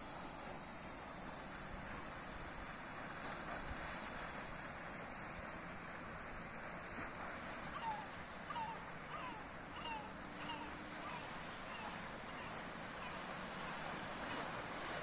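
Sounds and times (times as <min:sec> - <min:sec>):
wind and sea: 0:00.0 - 0:15.0.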